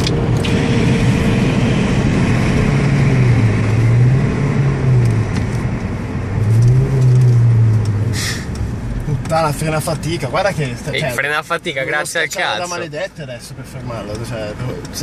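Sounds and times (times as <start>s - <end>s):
car engine at high speed: 0.0s - 15.0s
road and wind noise: 0.0s - 15.0s.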